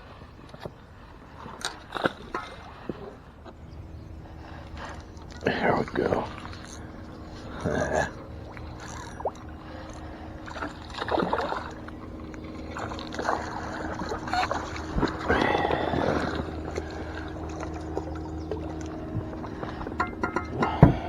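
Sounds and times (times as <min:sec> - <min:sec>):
steady low hum: 0:00.0 - 0:21.0
water splashing at a boat: 0:00.0 - 0:21.0.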